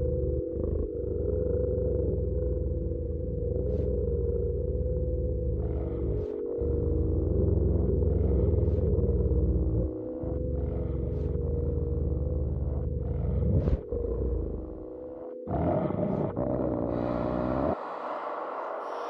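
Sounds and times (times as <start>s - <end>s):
deep rumbling roar: 0.0s - 18.2s
held drone tones: 0.0s - 19.0s.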